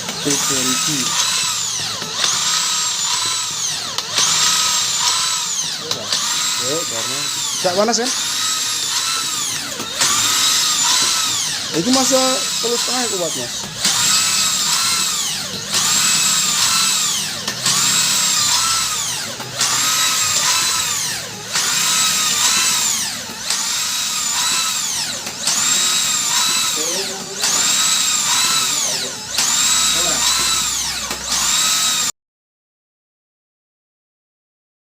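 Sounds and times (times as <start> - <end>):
electric drill whining under load: 0.0 - 32.1.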